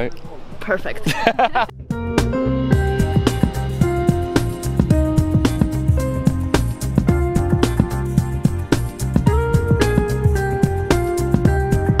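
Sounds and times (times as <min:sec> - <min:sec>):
background music with steady beat: 0:00.5 - 0:12.0.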